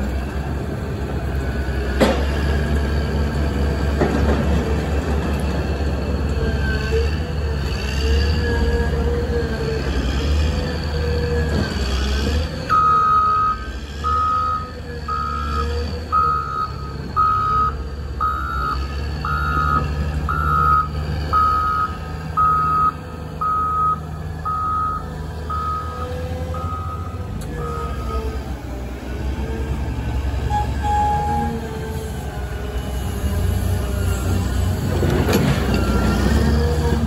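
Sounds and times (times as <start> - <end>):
diesel engine rumble: 0.0 - 37.0.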